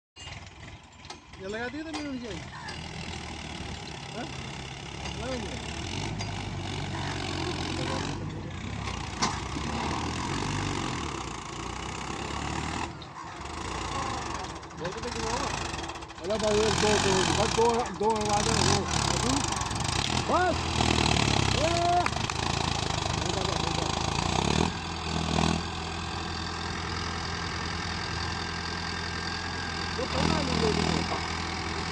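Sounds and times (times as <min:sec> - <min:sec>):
tractor diesel engine idling: 0:00.2 - 0:31.9.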